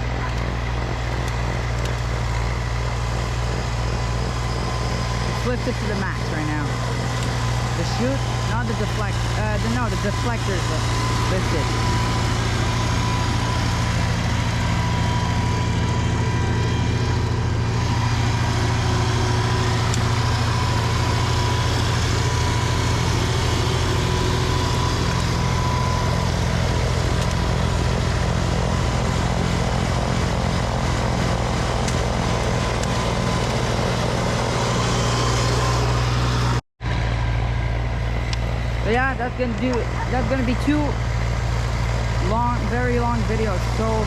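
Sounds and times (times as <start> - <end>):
snowblower engine running: 0.0 - 44.0.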